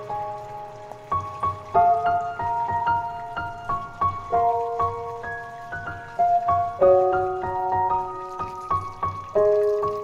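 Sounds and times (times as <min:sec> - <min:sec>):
gentle melody of ringing notes: 0:00.0 - 0:10.0.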